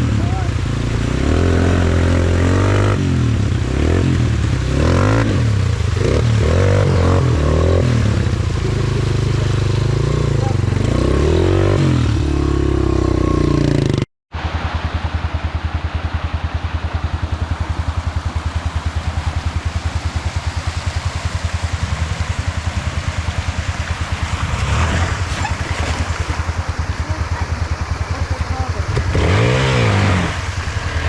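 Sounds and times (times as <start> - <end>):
off-road vehicle engine revving: 0.0 - 14.0, 18.8 - 31.0.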